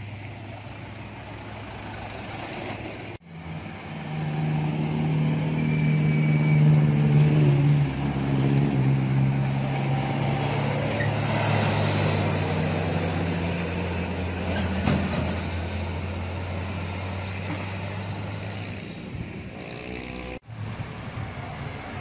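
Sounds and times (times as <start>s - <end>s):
diesel truck engine climbing: 0.0s - 22.0s
road traffic: 0.0s - 22.0s.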